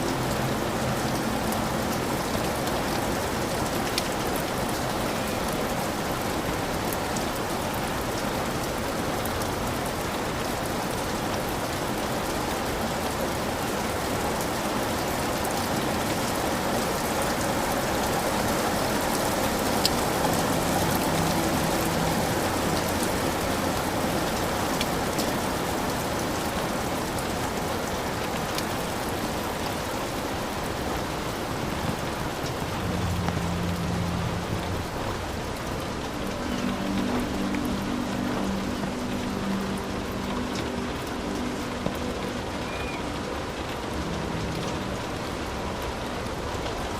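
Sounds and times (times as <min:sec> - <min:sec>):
heavy rain on a roof: 0:00.0 - 0:46.9
raindrop ticks: 0:00.0 - 0:46.9.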